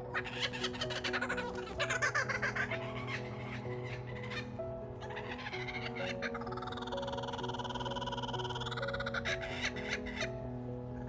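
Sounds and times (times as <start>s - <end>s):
kookaburra cackling call: 0.0s - 10.4s
background music sustained notes: 0.0s - 11.0s.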